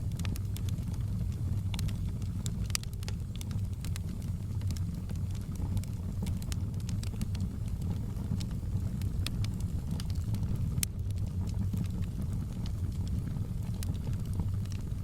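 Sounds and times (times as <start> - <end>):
burning wood crackling and popping: 0.0 - 15.0
fire roaring in fireplace: 0.0 - 15.0.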